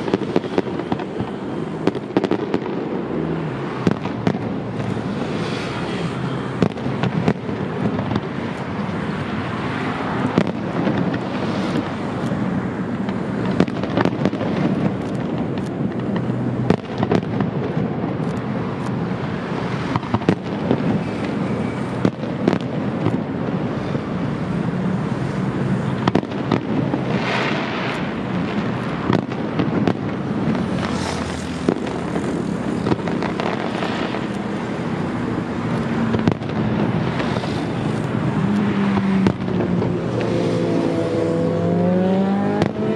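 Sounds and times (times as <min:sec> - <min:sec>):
rumble and crackle: 0:00.0 - 0:41.2
hissing crackle: 0:03.8 - 0:40.9.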